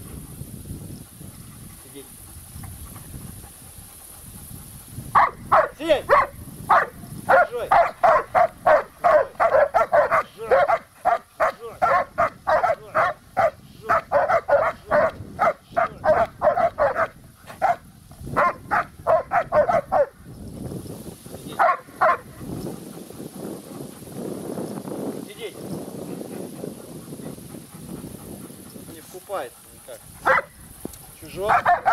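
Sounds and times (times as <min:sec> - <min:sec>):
dogs barking rapidly: 0:03.0 - 0:20.2, 0:21.4 - 0:24.2, 0:25.1 - 0:31.9.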